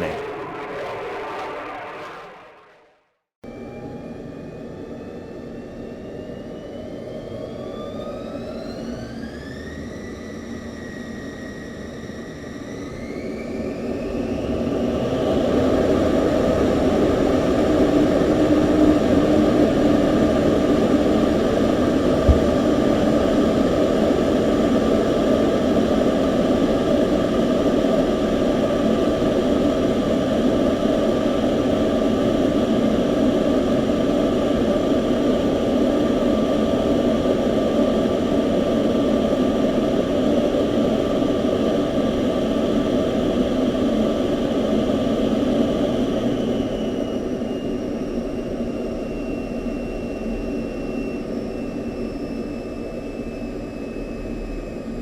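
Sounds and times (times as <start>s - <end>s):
jet aircraft engine whine: 0.0s - 55.0s.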